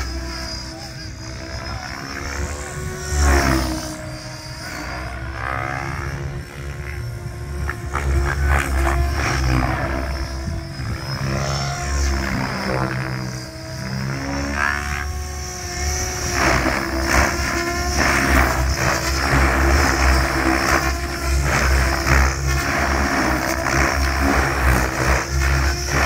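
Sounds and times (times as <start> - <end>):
rc helicopter motor whine: 0.0 - 26.0.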